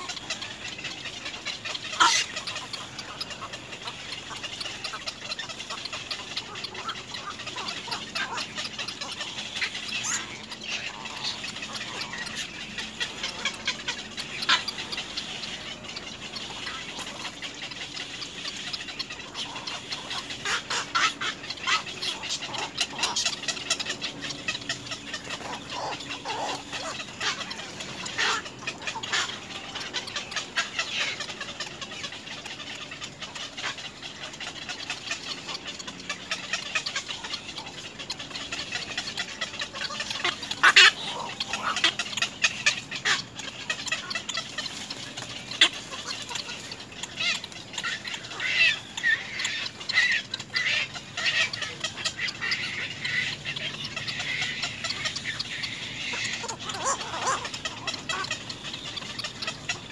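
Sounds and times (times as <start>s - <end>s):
heron chicks chattering calls: 0.0s - 59.9s.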